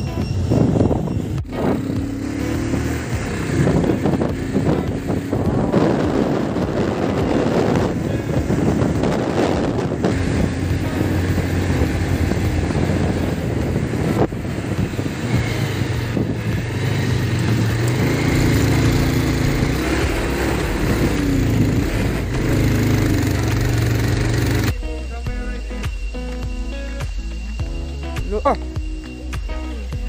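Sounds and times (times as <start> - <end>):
wind on microphone: 0.0 - 24.8
motorcycle engine running: 0.0 - 30.0.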